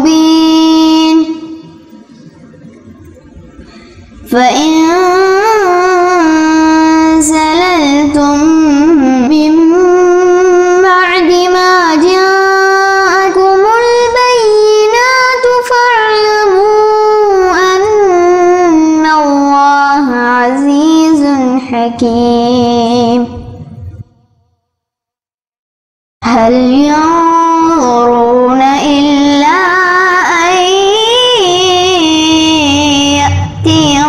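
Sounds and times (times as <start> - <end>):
boy chanting recitation: 0.0 - 1.9, 4.2 - 23.5, 26.2 - 34.0.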